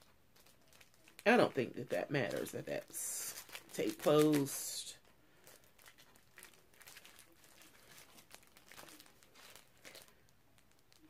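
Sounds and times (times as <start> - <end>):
plastic crinkling: 0.0 - 11.0.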